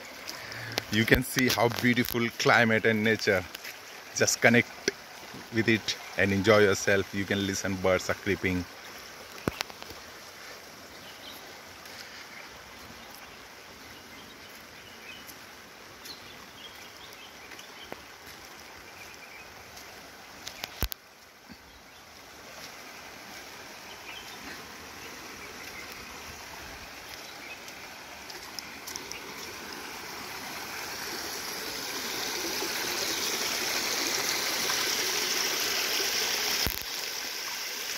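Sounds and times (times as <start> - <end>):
rain and running water: 0.0 - 37.9.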